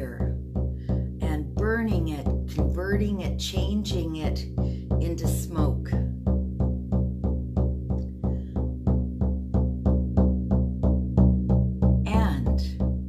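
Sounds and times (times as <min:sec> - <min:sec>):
frame drum beaten: 0:00.0 - 0:13.0.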